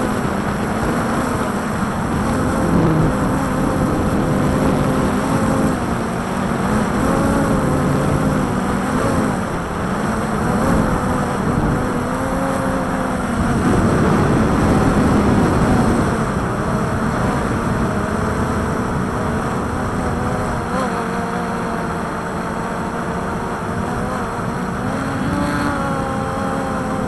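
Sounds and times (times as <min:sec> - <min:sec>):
drone motors humming: 0:00.0 - 0:27.0
wind rumble on microphone: 0:00.0 - 0:27.0.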